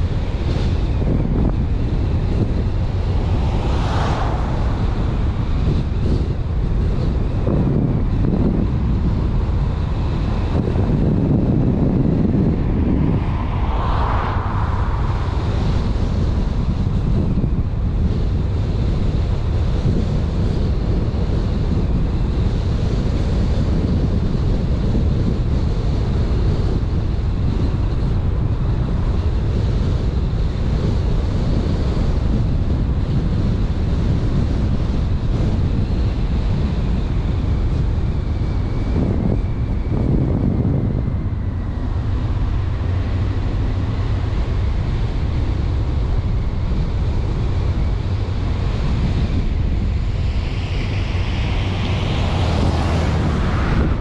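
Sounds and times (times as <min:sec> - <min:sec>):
car road rumble: 0:00.0 - 0:54.0
wind buffeting microphone: 0:00.0 - 0:54.0.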